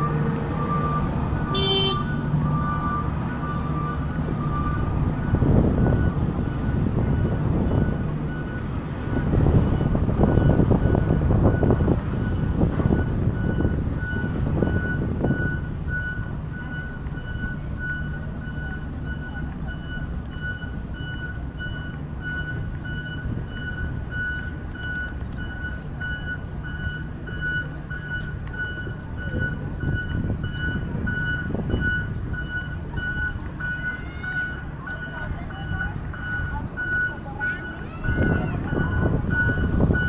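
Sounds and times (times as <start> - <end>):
low rumble of engines: 0.0 - 40.0
reversing alarm beeping: 0.0 - 40.0
traffic: 0.0 - 40.0.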